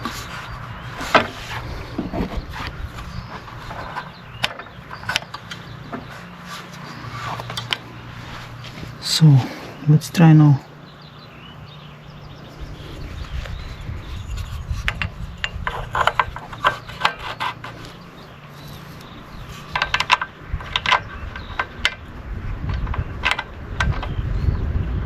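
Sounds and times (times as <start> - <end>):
recoil starter rope clicking and rattling: 0.0 - 9.1, 13.2 - 24.3
low engine rumble: 0.0 - 25.0.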